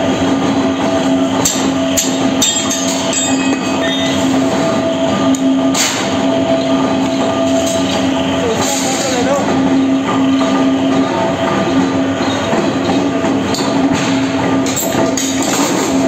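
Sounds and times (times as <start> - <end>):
constant hum: 0.0 - 16.0
foundry machinery roar: 0.0 - 16.0.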